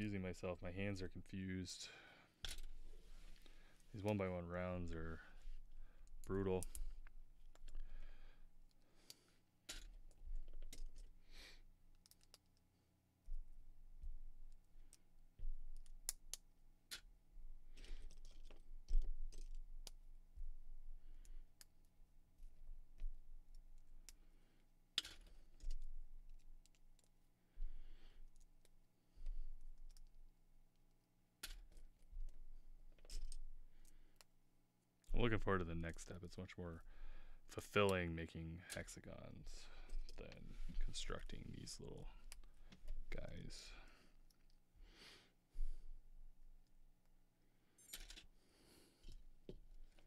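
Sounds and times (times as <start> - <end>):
faint electrical hum: 0.0 - 50.0.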